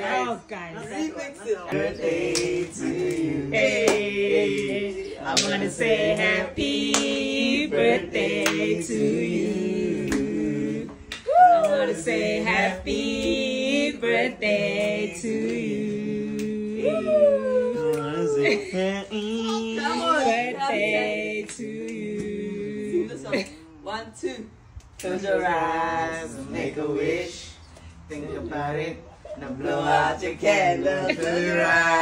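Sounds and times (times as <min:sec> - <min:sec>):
group singing unaccompanied: 0:00.0 - 0:23.6, 0:24.2 - 0:32.0.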